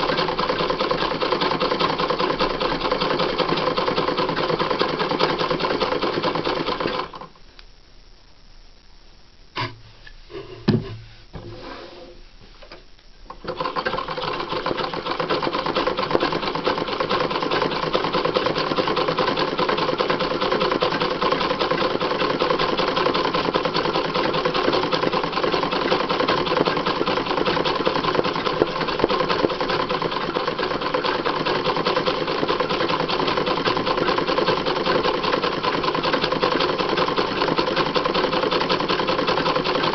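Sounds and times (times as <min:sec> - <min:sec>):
sewing machine running: 0:00.0 - 0:07.3, 0:13.4 - 0:39.9.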